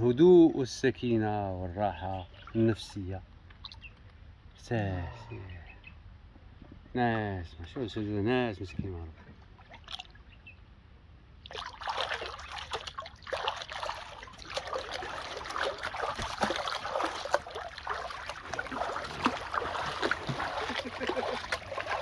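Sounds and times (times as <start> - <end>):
water splashing and trickling: 0.0 - 5.4, 7.1 - 10.4, 11.4 - 22.0.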